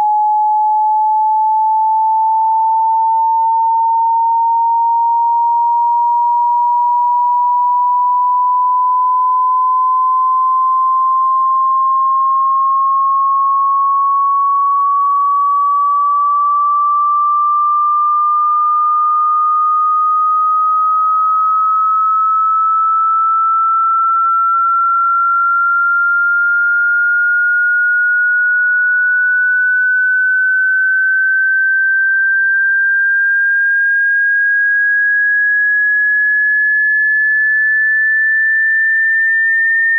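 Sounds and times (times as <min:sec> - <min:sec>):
sine tone sweeping upward: 0:00.0 - 0:39.9.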